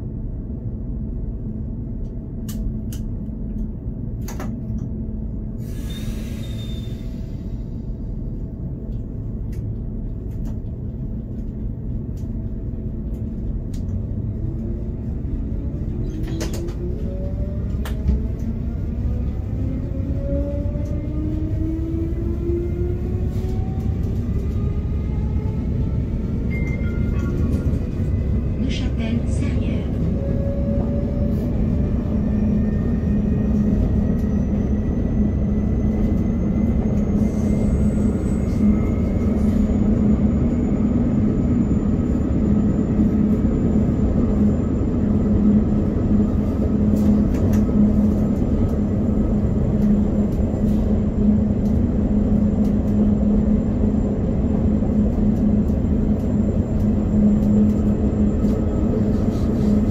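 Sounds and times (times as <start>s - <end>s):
train rumble with low hum: 0.0s - 59.9s.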